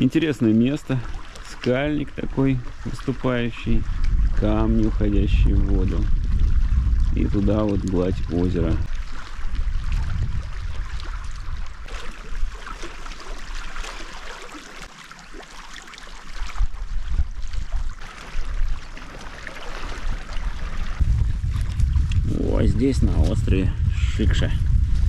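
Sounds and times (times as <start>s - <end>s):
wind rumbling on microphone: 0.0s - 14.3s, 16.3s - 25.0s
small waves lapping on rocks: 0.0s - 23.6s.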